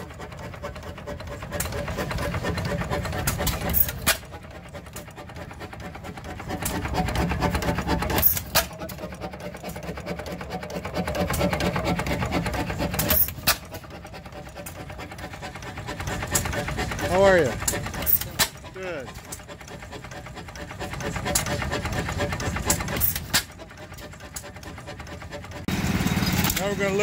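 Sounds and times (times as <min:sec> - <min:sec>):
stationary gas engine hit-and-miss: 0:00.0 - 0:27.0.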